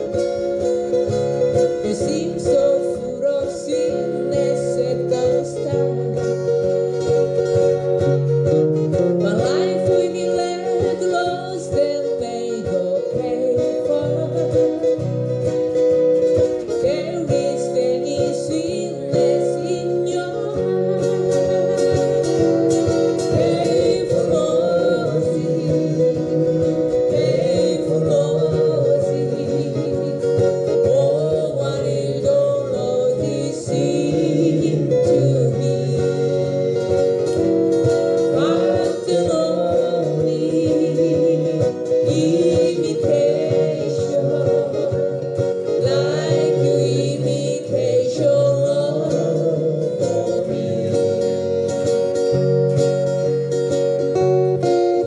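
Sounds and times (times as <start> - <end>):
person singing: 0.0 - 8.0, 8.9 - 52.1
acoustic guitars strumming: 0.0 - 55.0.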